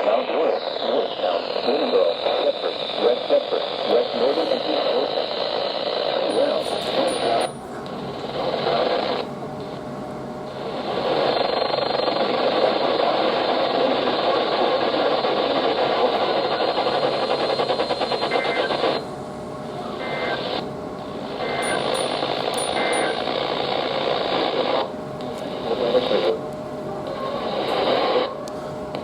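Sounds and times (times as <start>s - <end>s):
radio static hiss: 0.0s - 9.9s, 10.5s - 29.0s.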